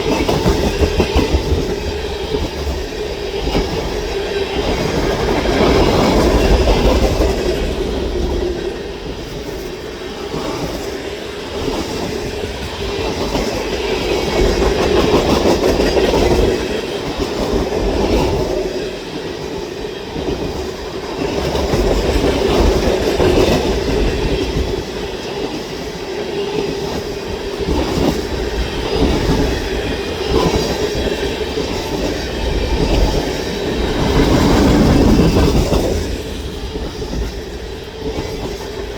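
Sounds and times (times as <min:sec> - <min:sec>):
train wheels rumbling and rattling: 0:00.0 - 0:38.9.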